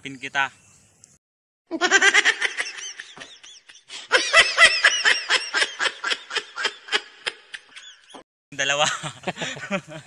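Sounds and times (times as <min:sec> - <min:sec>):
men laughing: 0:01.8 - 0:10.0.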